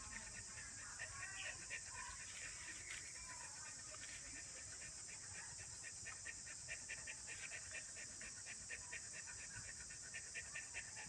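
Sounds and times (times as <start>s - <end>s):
puppy panting: 0.0s - 11.0s.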